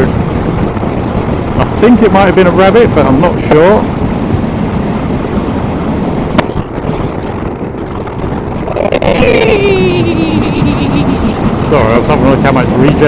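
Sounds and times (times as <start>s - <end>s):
wind and road rush: 0.0s - 13.0s.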